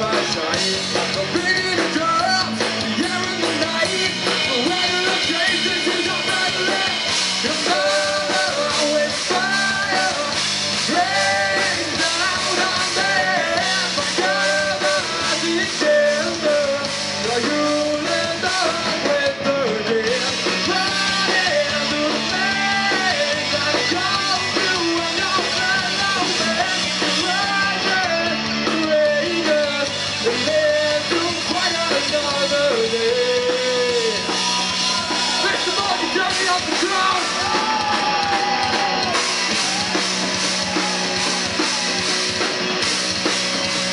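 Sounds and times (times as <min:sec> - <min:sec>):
man singing: 0:00.0 - 0:39.8
drums: 0:00.0 - 0:43.9
electric guitars: 0:00.0 - 0:43.9.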